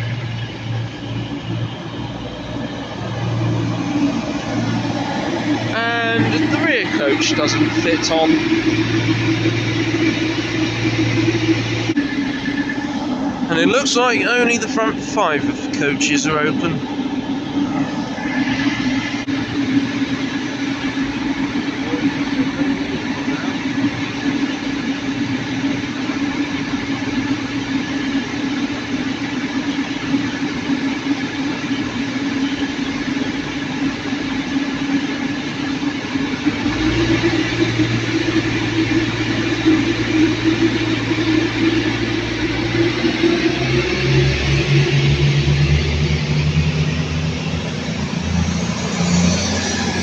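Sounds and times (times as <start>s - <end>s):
train diesel engines idling: 0.0s - 50.0s
train engines revving up: 0.0s - 50.0s.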